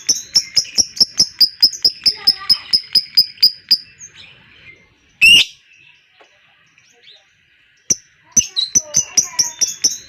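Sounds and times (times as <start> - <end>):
bird chirping rapidly: 0.0 - 6.0, 6.9 - 10.0.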